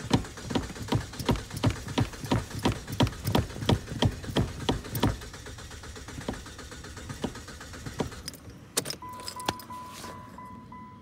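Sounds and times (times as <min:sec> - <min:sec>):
car engine cranking: 0:00.0 - 0:10.6.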